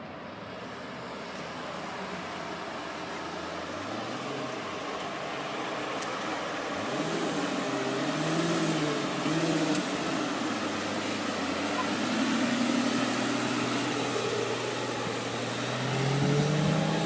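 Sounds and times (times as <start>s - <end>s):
background traffic noise: 0.0s - 17.0s.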